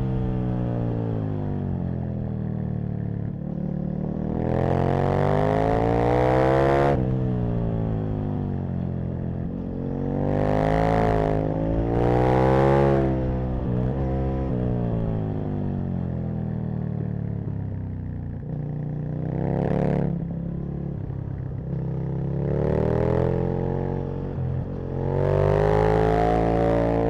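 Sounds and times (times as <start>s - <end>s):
motorcycle engine revving: 0.0s - 16.6s, 18.4s - 27.0s.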